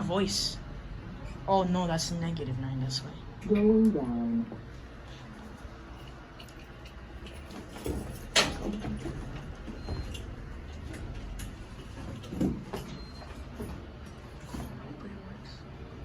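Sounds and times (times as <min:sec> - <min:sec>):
elevator low rumble: 0:00.0 - 0:16.0.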